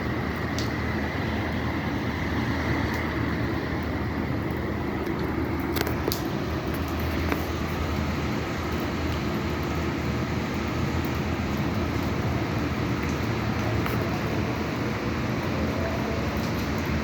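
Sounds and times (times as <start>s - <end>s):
car traffic rumble: 0.0s - 17.0s
rain hiss: 0.0s - 17.0s.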